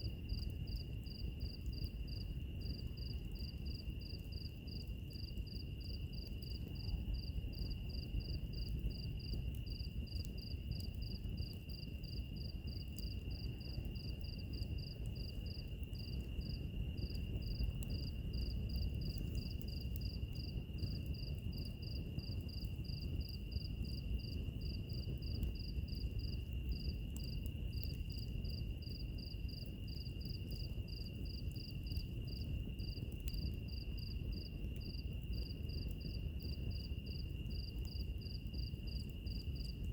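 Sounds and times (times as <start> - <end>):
crickets chirping: 0.0 - 39.9
fireplace fire crackling: 0.0 - 39.9.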